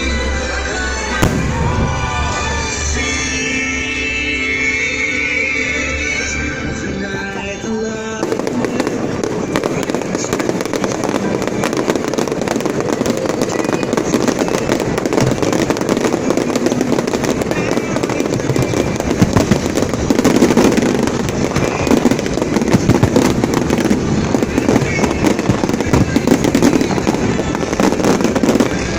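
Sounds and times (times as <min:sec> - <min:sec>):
fireworks crackling and popping: 0:00.0 - 0:03.6, 0:06.6 - 0:28.9.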